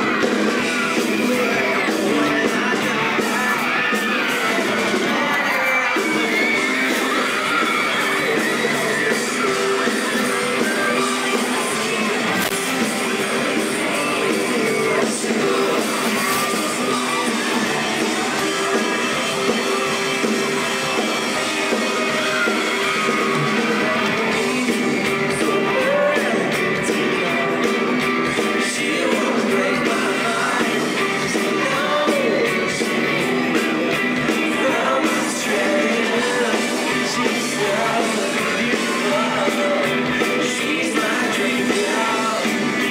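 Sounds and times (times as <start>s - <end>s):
drums with cymbal hits: 0.0s - 42.9s
fans yelling: 0.0s - 42.9s
guitars: 0.0s - 42.9s
live pop-rock band playing: 0.0s - 42.9s
person singing: 0.0s - 42.9s.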